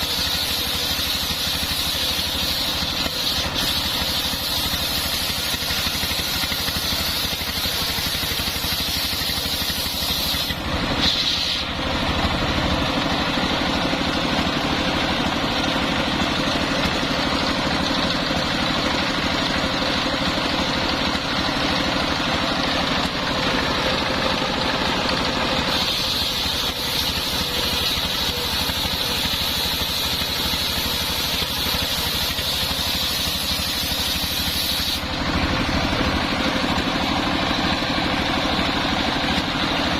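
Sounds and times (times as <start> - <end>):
engine-driven sawmill running: 0.0 - 39.9.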